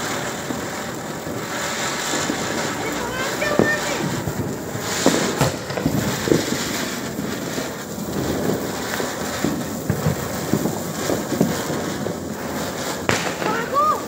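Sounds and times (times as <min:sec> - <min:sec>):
firecracker crackles and pops: 0:00.0 - 0:14.0
spinner firecracker rushing: 0:00.0 - 0:14.0.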